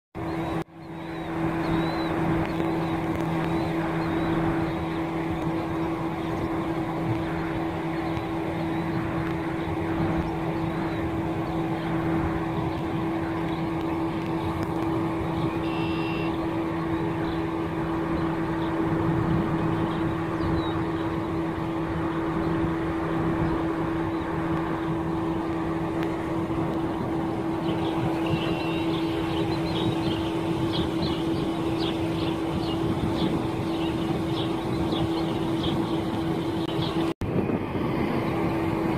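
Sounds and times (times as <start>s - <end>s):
machine hum: 0.2s - 38.9s.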